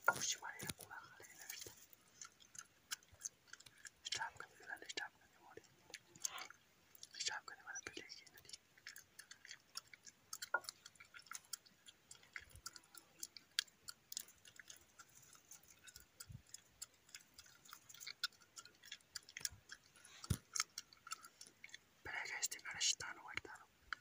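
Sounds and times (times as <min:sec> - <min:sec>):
faint clicks and ticks: 0:00.0 - 0:24.0.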